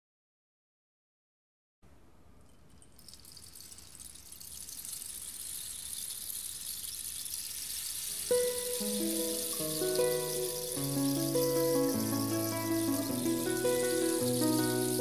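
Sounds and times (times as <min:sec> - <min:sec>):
rainstick pellets trickling: 0:02.4 - 0:15.0.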